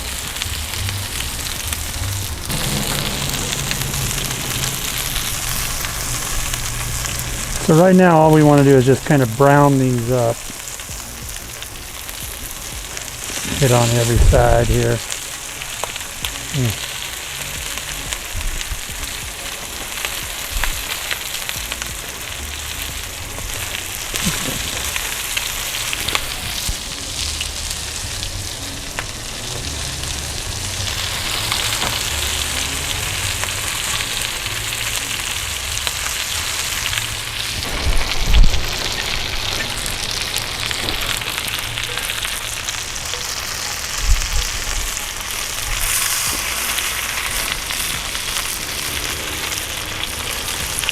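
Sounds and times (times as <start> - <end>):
meatballs sizzling in oil: 0.0 - 50.9.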